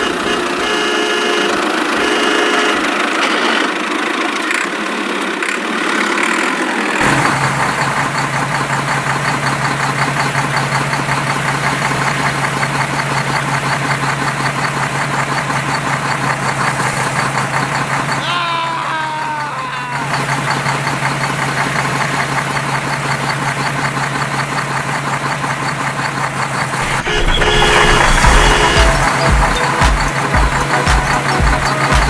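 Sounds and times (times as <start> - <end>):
mixed mechanical sounds: 0.0 - 19.0, 19.6 - 32.0
vehicle engine idling: 0.0 - 32.0.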